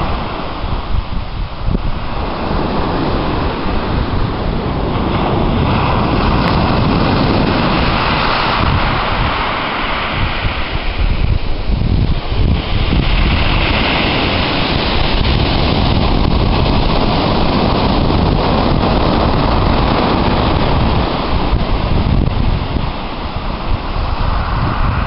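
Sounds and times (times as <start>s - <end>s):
waves washing over shingle: 0.0s - 25.0s
wind buffeting microphone: 0.0s - 25.0s.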